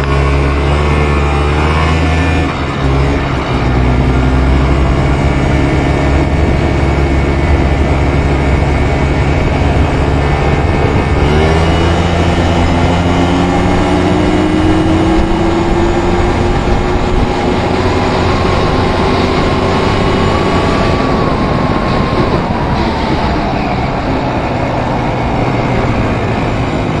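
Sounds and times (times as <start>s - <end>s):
atv engine running: 0.0s - 27.0s
wind and road noise: 0.0s - 27.0s.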